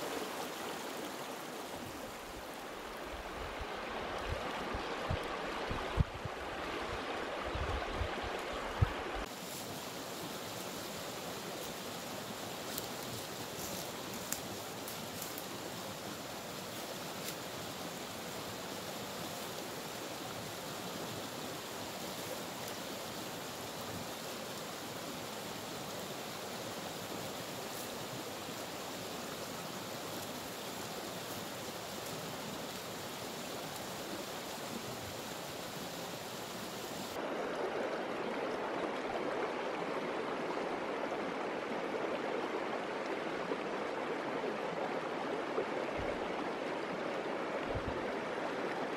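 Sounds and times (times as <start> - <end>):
stream rushing over stones: 0.0 - 48.9.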